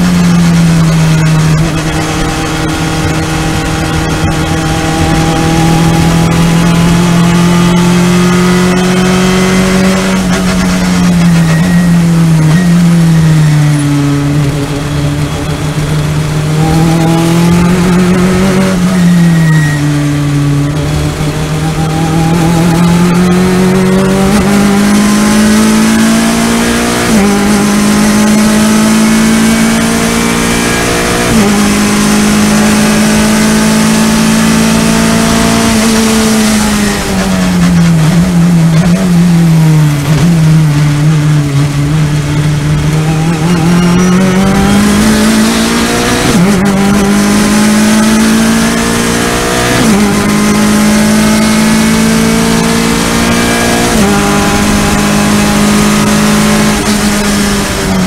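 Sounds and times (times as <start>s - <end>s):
race car engine accelerating: 0.0s - 58.0s
wind and road noise: 0.0s - 58.0s.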